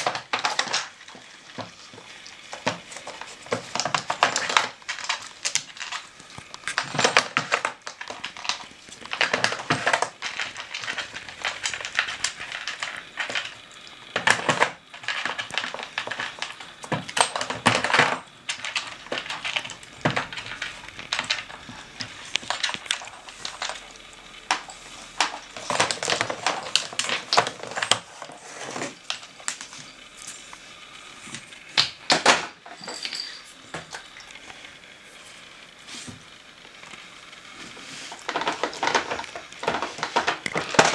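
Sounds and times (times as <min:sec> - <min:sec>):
plastic puzzle clicking and clattering: 0:00.0 - 0:34.5, 0:36.4 - 0:40.9.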